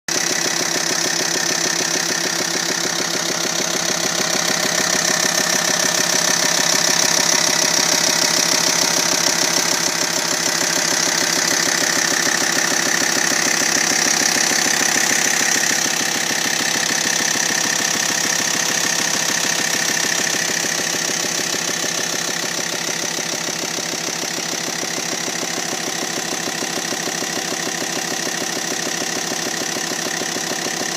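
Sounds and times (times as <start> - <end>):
engine running with fast pulse: 0.1 - 30.9.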